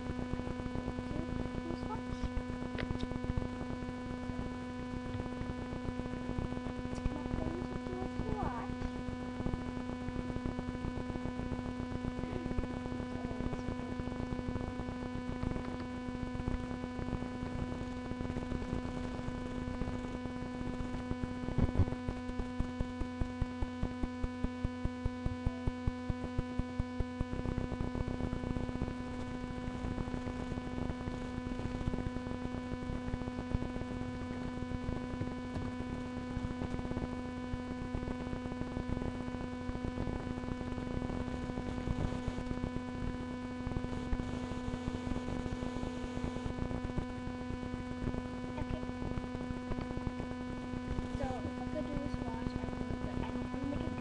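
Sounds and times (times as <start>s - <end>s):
electrical hum and hiss: 0.0s - 54.0s.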